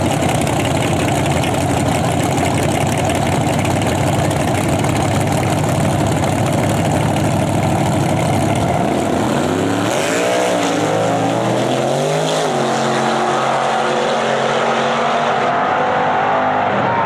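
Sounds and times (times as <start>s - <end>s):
drag cars accelerating hard: 0.0s - 17.0s.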